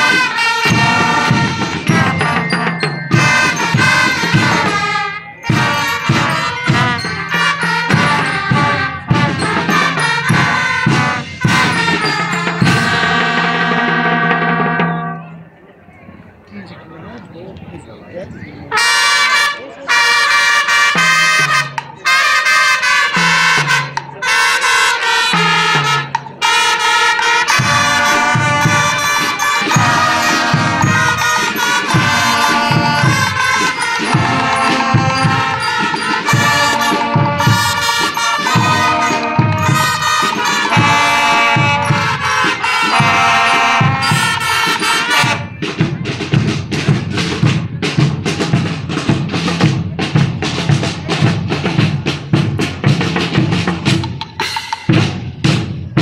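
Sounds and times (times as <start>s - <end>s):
drum beat: 0.0s - 15.0s, 18.7s - 56.0s
marching band playing: 0.0s - 15.6s, 18.5s - 56.0s.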